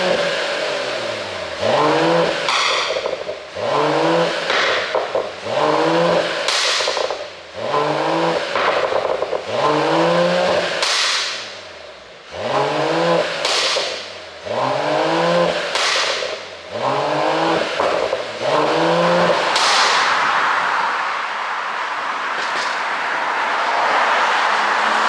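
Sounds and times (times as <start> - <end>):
exhaust pops and crackles: 0.0 - 11.8, 13.0 - 14.3, 15.4 - 23.6
car engine revving: 0.0 - 25.0.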